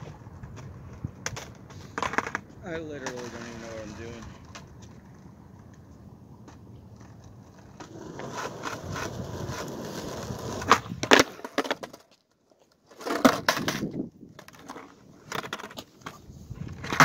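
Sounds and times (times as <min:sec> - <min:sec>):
skateboard clattering on pavement: 0:00.0 - 0:17.0
skateboard wheels rolling on asphalt: 0:00.0 - 0:17.0.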